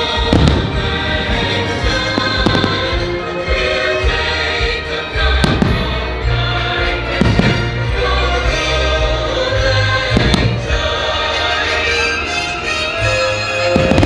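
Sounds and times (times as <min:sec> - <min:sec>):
choir music over speakers: 0:00.0 - 0:14.0.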